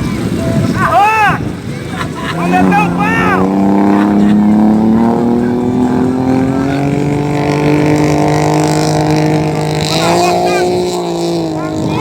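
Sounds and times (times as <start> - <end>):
watercraft engine running: 0.0 - 12.0.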